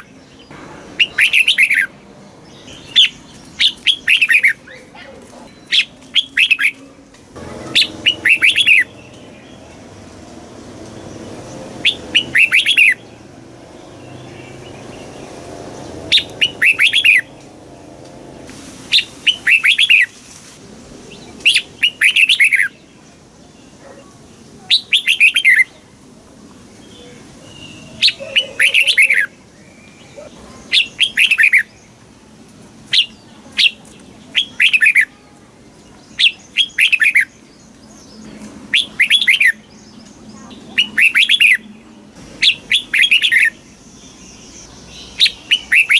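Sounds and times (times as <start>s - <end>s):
bird singing: 0.0s - 18.2s, 21.1s - 25.9s, 26.7s - 32.2s, 32.9s - 45.9s.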